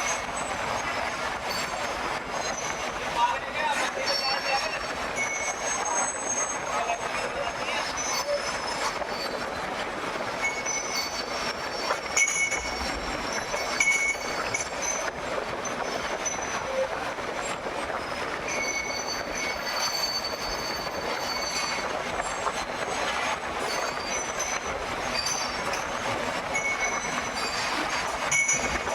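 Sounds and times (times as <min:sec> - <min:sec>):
high metallic squeals: 0:00.0 - 0:28.9
steady mechanical running noise: 0:00.0 - 0:28.9.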